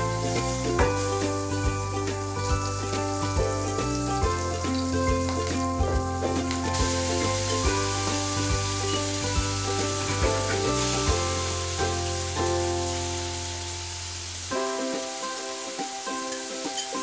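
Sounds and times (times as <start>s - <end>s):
background music: 0.0s - 17.0s
leaves sizzling in hot oil: 0.0s - 17.0s.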